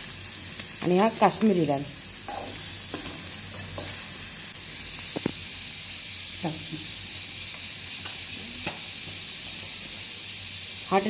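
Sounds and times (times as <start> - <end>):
onions frying in hot oil: 0.0 - 11.0.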